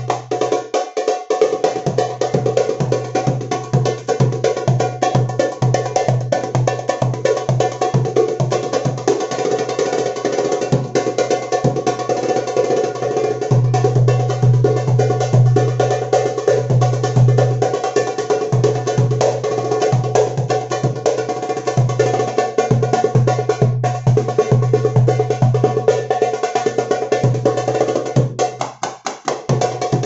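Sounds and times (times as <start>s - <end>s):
fast hand drumming: 0.0s - 30.0s.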